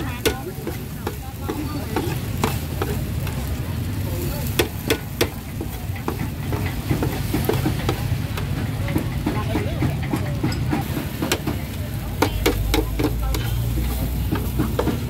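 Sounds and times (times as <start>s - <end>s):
utensil clinking against pan: 0.0s - 3.6s, 4.4s - 15.0s
food frying in a pan: 0.0s - 10.1s, 10.8s - 15.0s.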